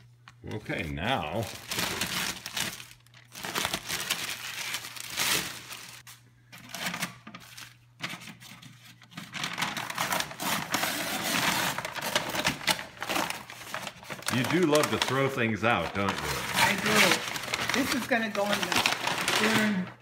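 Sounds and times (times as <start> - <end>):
plastic and paper crinkling: 0.0 - 20.0.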